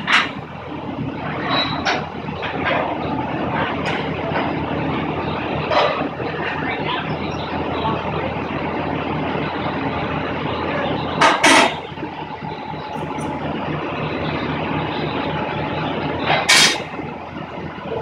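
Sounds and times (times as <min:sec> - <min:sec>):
vehicle running: 0:00.0 - 0:18.0.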